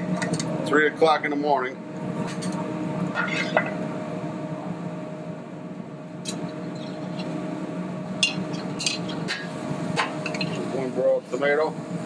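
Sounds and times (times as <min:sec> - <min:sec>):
kitchen hum: 0:00.0 - 0:12.0.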